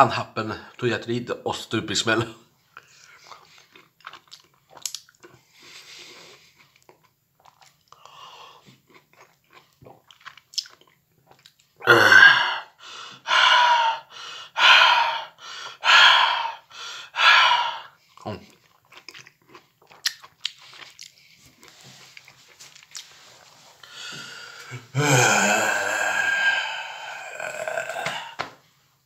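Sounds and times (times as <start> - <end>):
man chewing: 2.7 - 28.4.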